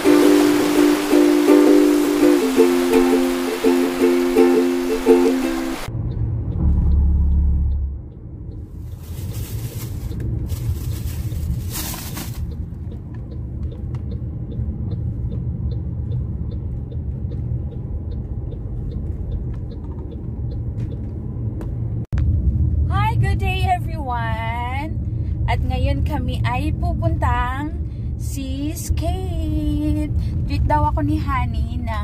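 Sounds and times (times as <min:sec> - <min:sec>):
car engine and tyre rumble: 0:02.7 - 0:32.0.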